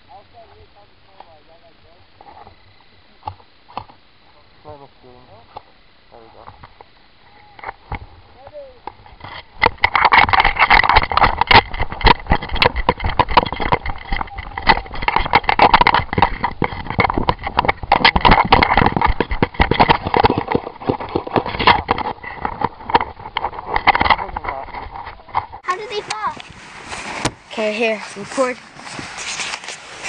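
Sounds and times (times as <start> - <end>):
gear rattling against camera: 5.2 - 30.0.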